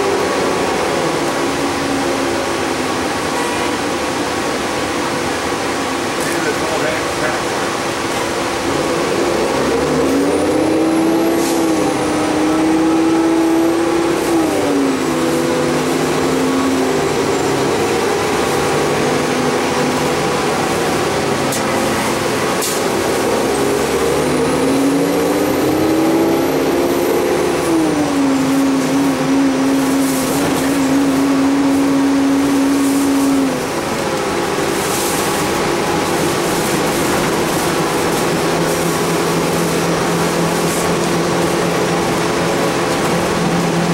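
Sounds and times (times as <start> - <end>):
bus engine and transmission whine: 0.0 - 43.9.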